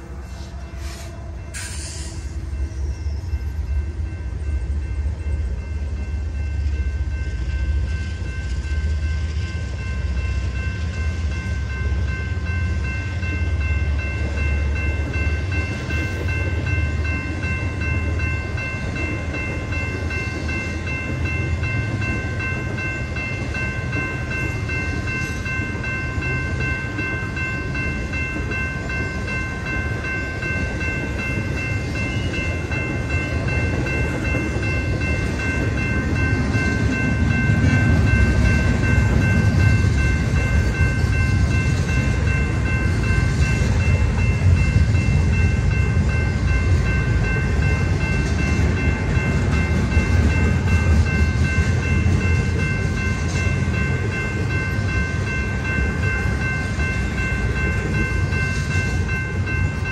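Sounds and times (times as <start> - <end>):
crossing warning bell: 0.0 - 59.9
freight train wheels rumbling on rail: 0.0 - 59.9.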